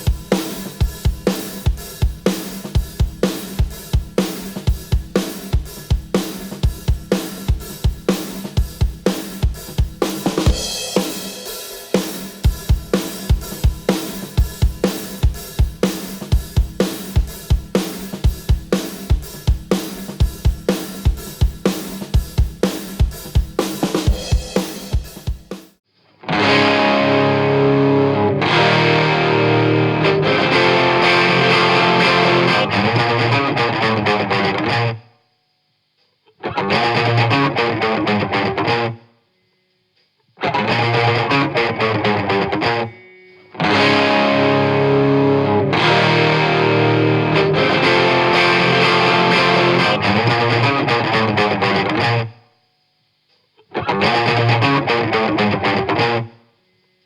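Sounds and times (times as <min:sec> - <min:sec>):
distorted electric guitar: 0:00.0 - 0:25.4, 0:26.1 - 0:35.1, 0:36.3 - 0:39.1, 0:40.4 - 0:52.5, 0:53.6 - 0:56.9.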